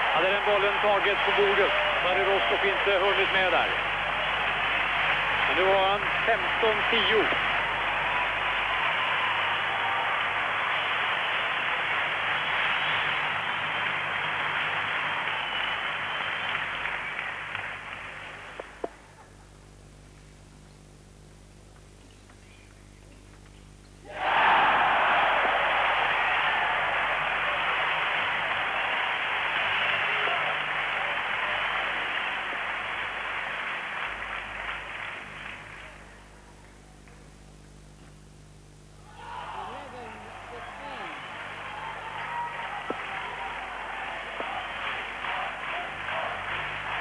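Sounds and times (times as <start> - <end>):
crowd applauding: 0.0 - 18.9, 24.1 - 37.3, 39.4 - 47.0.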